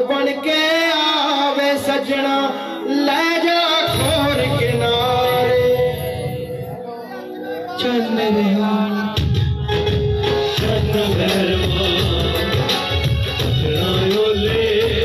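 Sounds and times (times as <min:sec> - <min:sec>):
man singing through loudspeakers: 0:00.0 - 0:15.0
band accompaniment: 0:02.8 - 0:15.0.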